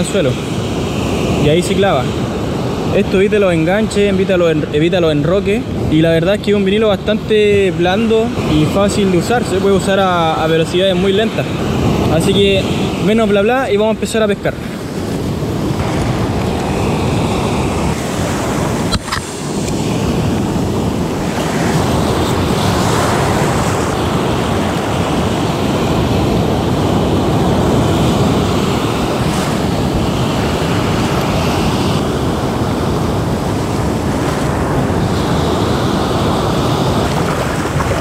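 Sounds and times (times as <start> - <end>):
ocean surf breaking: 0.0 - 38.0
wind buffeting microphone: 0.0 - 38.0.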